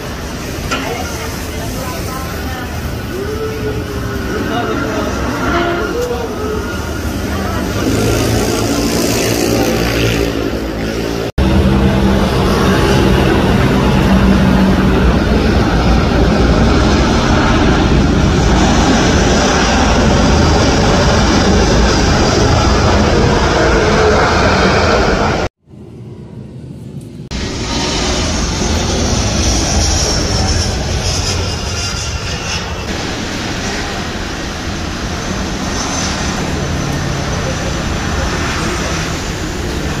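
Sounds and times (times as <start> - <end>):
aircraft engine noise: 0.0 - 40.0
low hum: 0.0 - 40.0.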